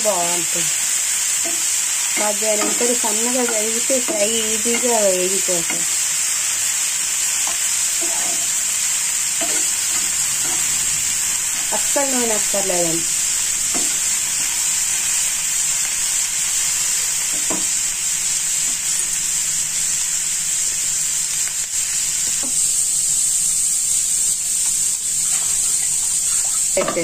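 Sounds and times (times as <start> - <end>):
beetroot sizzling in a pan: 0.0 - 27.0.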